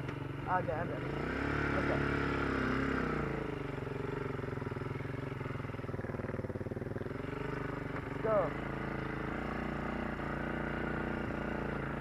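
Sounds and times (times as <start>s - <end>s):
atv engine revving and running: 0.0s - 12.0s.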